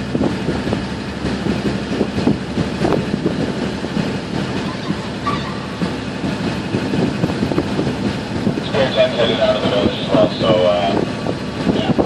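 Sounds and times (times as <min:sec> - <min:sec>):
ferry engine running: 0:00.0 - 0:12.0.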